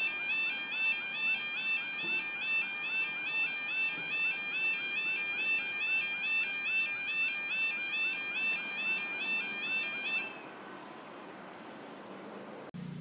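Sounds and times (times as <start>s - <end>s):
level crossing warning alarm: 0.0s - 11.2s.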